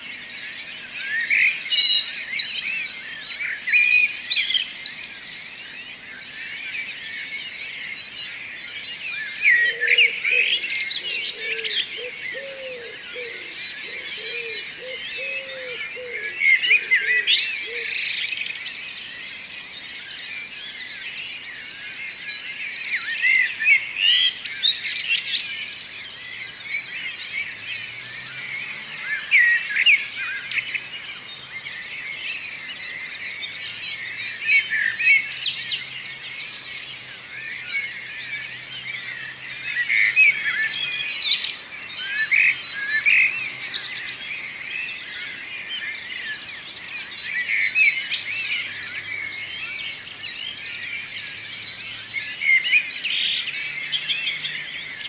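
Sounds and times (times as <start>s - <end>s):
songbirds singing: 0.0s - 55.0s
loud nearby bird calls: 6.2s - 55.0s.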